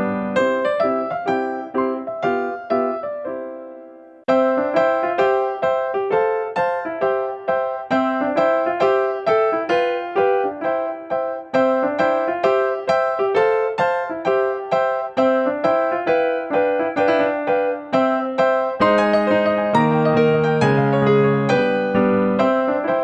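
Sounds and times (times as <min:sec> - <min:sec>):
electric piano melody: 0:00.0 - 0:23.0.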